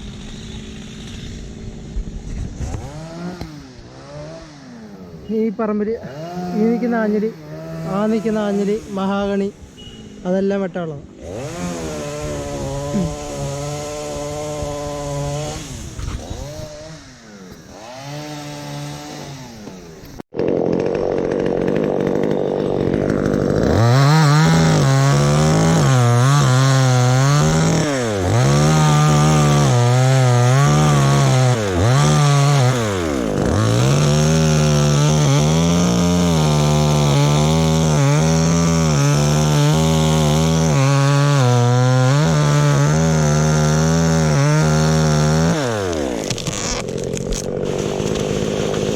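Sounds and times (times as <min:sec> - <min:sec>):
chainsaw engine revving: 0:00.0 - 0:10.3, 0:11.0 - 0:48.9.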